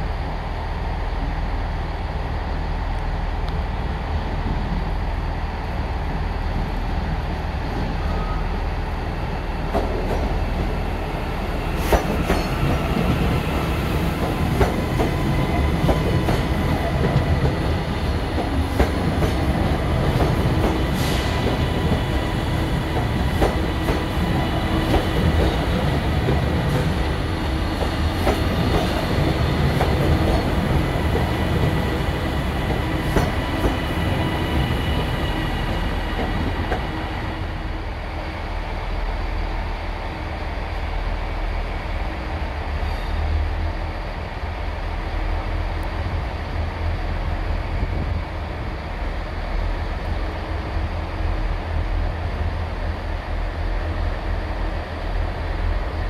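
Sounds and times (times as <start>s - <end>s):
thin train whine: 0.0s - 56.0s
train rumble: 0.0s - 56.0s.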